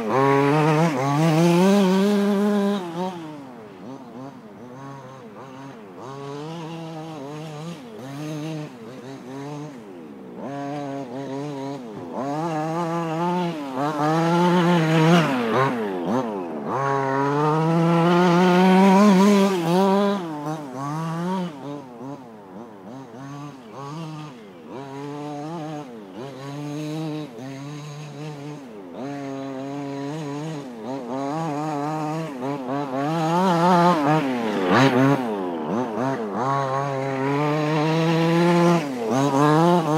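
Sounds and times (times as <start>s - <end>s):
rc car engine revving: 0.0s - 39.9s.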